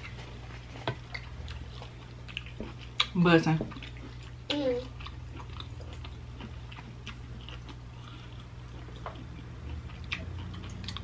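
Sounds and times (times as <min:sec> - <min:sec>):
person chewing: 0:00.0 - 0:03.1, 0:03.7 - 0:11.0
low steady hum: 0:00.0 - 0:11.0.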